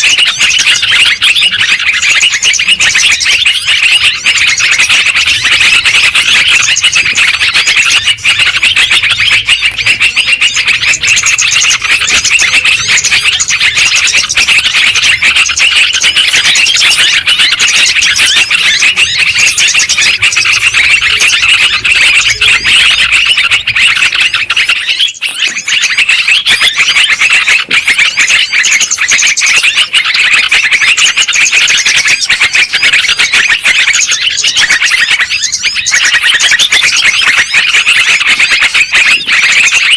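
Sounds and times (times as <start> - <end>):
flock of birds chirping and chattering: 0.0 - 39.9.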